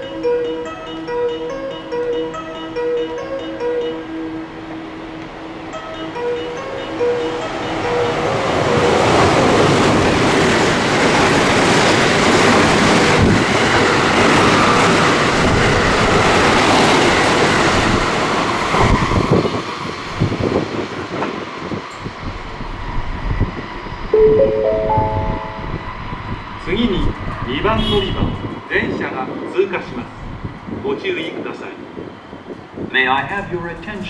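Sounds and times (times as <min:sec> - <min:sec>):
electric train passing at speed: 0:00.0 - 0:34.0.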